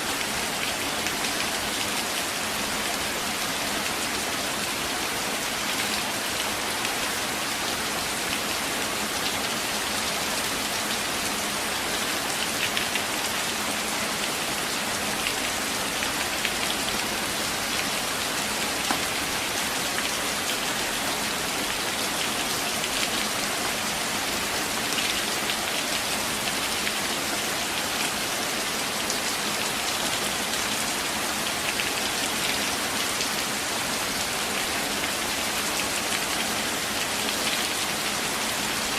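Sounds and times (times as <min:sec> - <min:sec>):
gentle rain in a forest: 0:00.0 - 0:38.9.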